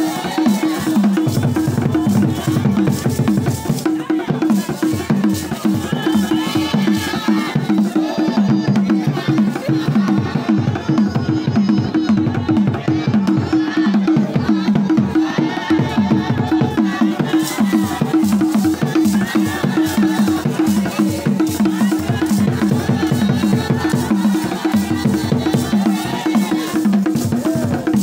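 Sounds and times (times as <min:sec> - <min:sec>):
group of voices singing: 0:00.0 - 0:28.0
steady drumbeat: 0:00.0 - 0:28.0.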